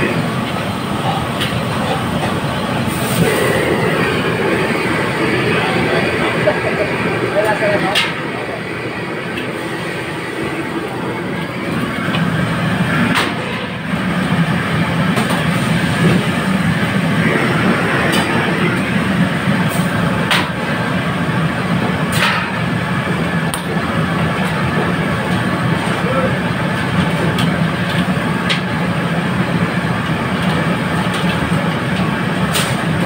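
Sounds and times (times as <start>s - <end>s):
gas burner rushing: 0.0s - 33.0s.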